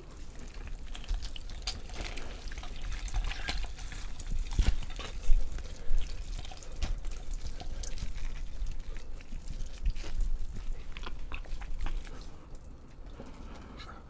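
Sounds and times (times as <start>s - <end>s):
roast chicken tearing wetly: 0.0s - 13.6s.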